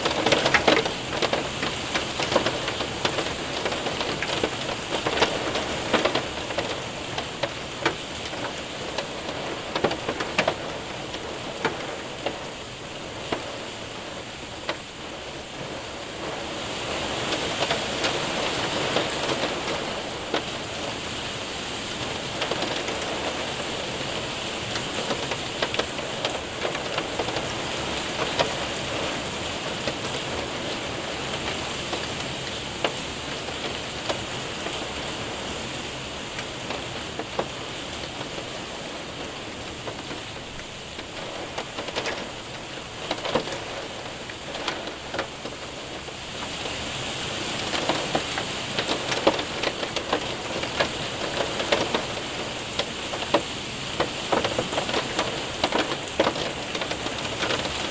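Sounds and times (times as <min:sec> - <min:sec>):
hailstones ticking on window: 0:00.0 - 0:57.9
rain hiss: 0:00.0 - 0:57.9.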